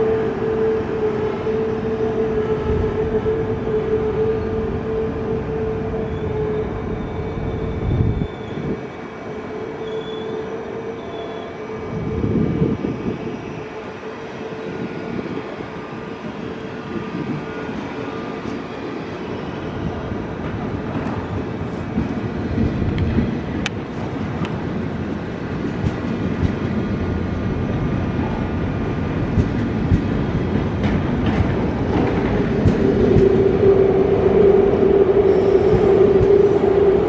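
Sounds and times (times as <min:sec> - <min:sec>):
train rolling past rumble: 0:00.0 - 0:37.0.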